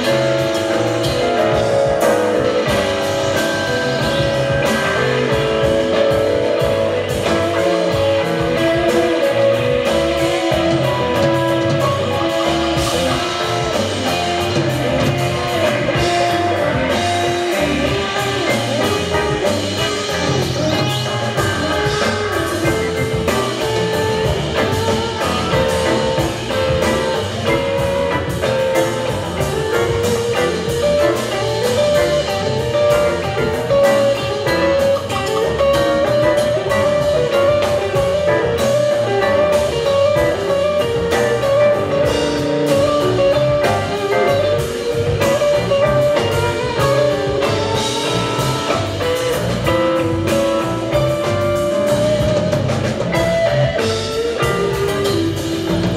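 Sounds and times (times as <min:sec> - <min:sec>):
bass guitar: 0:00.0 - 0:55.9
drum kit: 0:00.0 - 0:55.9
electric guitar sustained notes: 0:00.0 - 0:55.9.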